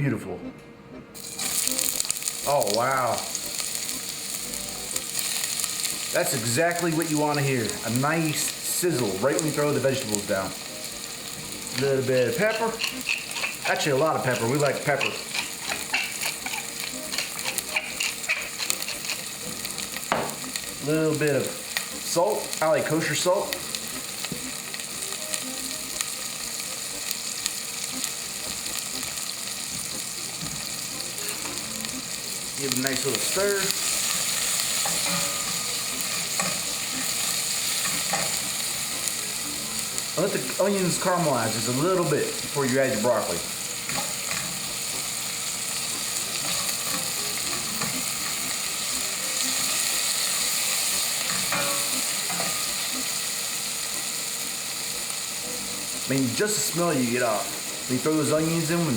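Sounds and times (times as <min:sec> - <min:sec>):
onions sizzling in hot oil: 0:01.2 - 0:58.9.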